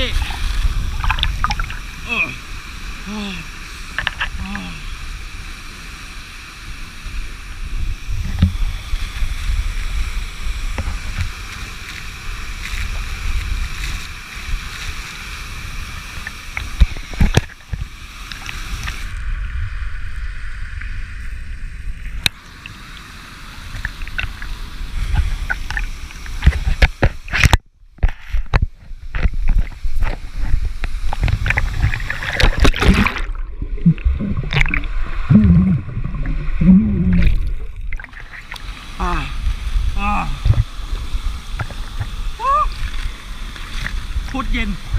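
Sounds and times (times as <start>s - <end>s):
wind rumble on microphone: 0.0s - 2.1s, 7.0s - 22.3s, 23.7s - 38.3s, 38.9s - 44.9s
water rushing at waterfall: 0.0s - 19.5s, 22.0s - 27.6s, 28.5s - 44.9s.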